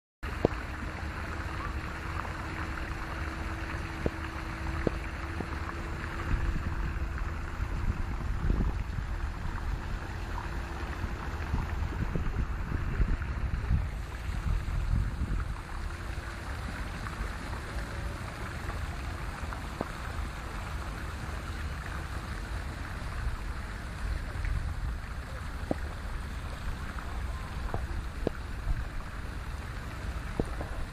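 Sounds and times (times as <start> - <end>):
faint steady hum: 0.2 - 30.9
outdoor hiss: 0.2 - 30.9
vehicle and road rumble: 0.2 - 30.9.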